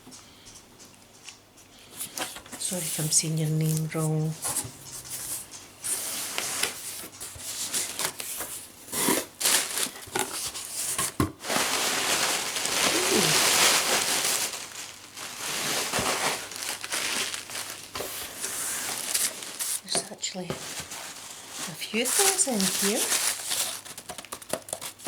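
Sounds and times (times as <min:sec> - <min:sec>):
paper crinkling and rustling: 0:01.8 - 0:25.0.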